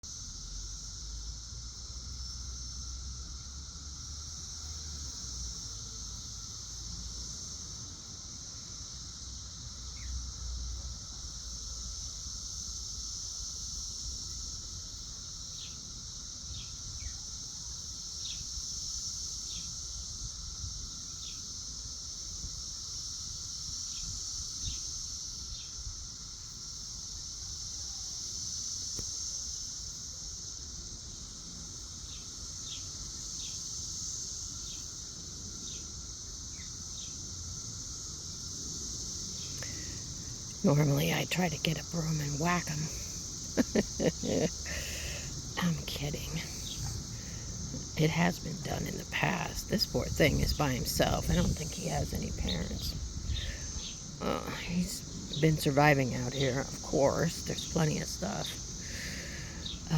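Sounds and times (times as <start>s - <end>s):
cicada chorus droning: 0.0s - 59.9s.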